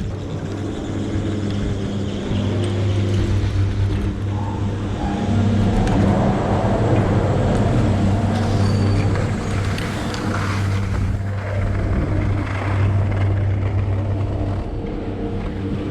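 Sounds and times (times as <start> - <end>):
low mechanical hum: 0.0 - 15.9.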